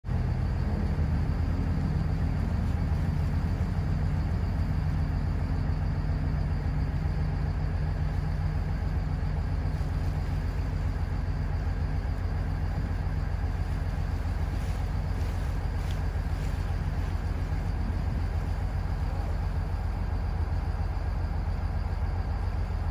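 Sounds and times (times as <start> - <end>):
boat engine rumble: 0.0 - 22.9.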